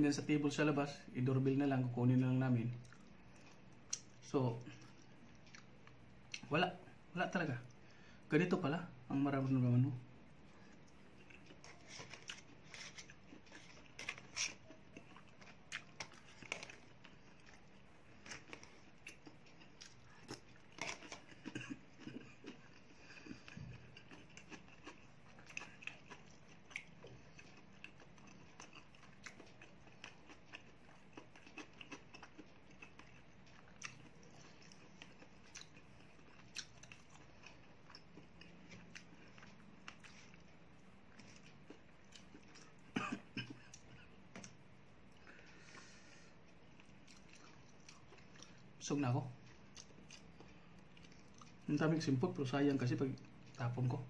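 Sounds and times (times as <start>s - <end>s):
chewing: 2.7s - 6.5s, 10.6s - 48.7s, 49.4s - 51.7s.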